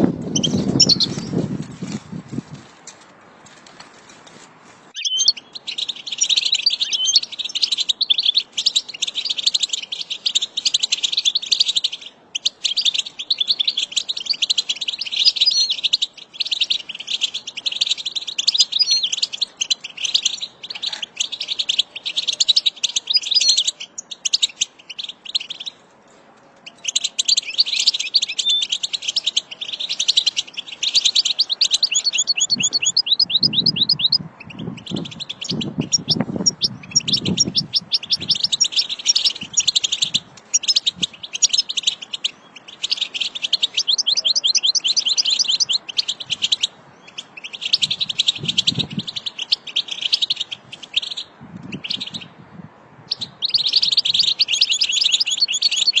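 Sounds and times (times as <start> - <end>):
finch twittering and trills: 0.0 - 1.5, 5.0 - 25.8, 26.6 - 52.4, 53.1 - 56.0.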